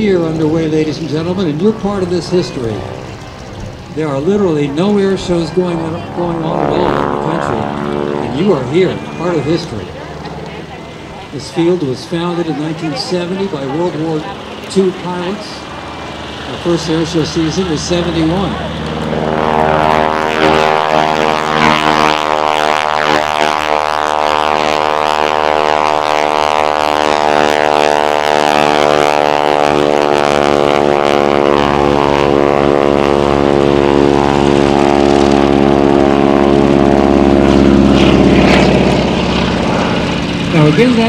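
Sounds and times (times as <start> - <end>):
biplane radial engine and propeller: 0.0 - 41.0.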